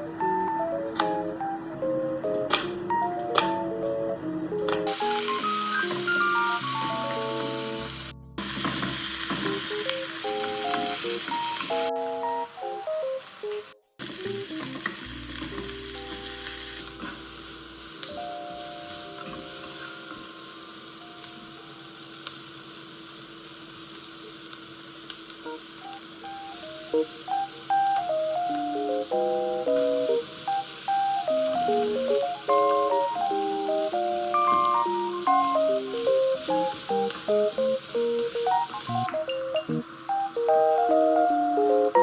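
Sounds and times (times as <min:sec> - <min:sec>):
background music melody: 0:00.0 - 0:08.5, 0:09.3 - 0:19.8, 0:25.5 - 0:42.0
food sizzling in a pan: 0:04.9 - 0:42.0.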